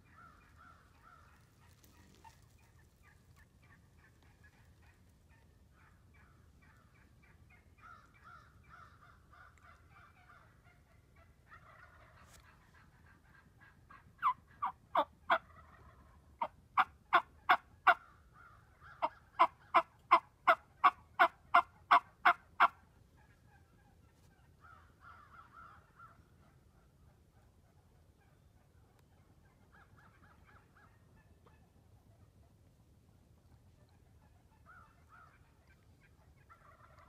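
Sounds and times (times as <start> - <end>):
turkey yelping: 0.0 - 26.6, 28.2 - 31.7, 33.8 - 37.0.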